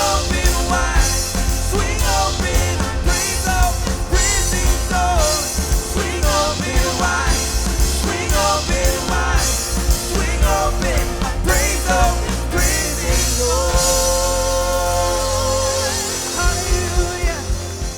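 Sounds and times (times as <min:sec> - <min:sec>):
rock band playing with singing: 0:00.0 - 0:17.9.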